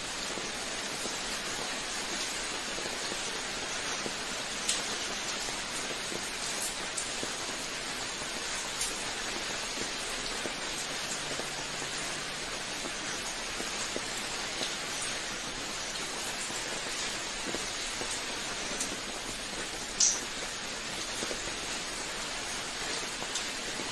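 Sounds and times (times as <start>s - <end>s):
steady rain hiss: 0.0s - 23.9s
raindrops ticking: 0.1s - 23.9s.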